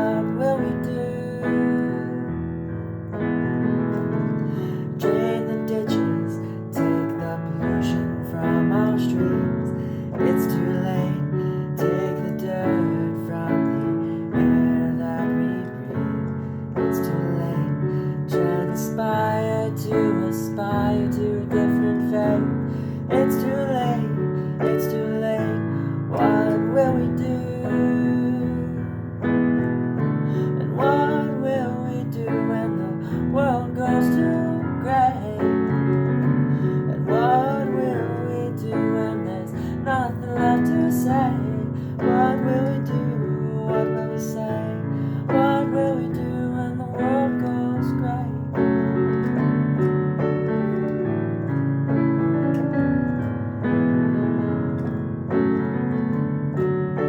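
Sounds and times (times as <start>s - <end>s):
held keyboard chords: 0.0s - 57.0s.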